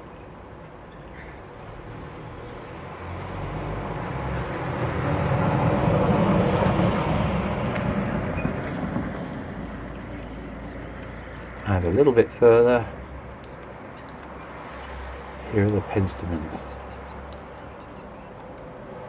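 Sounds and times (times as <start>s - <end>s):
road vehicle passing by: 1.2s - 19.0s.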